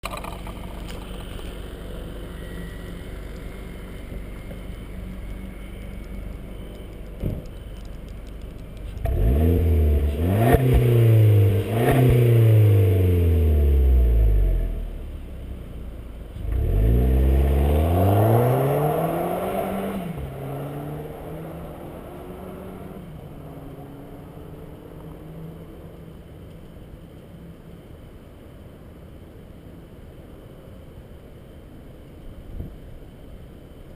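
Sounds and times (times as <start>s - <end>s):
car engine idling and revving: 0.0s - 27.3s.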